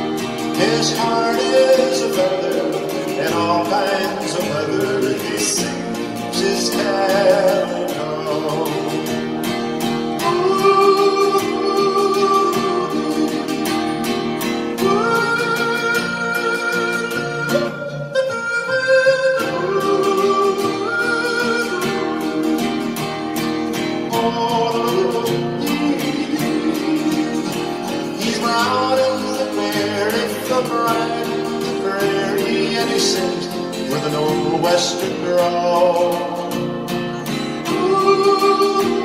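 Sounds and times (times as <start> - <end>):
acoustic guitar strummed: 0.0 - 39.0
man singing yodel-like: 0.2 - 9.3, 10.0 - 13.8, 14.6 - 22.6, 23.7 - 39.0.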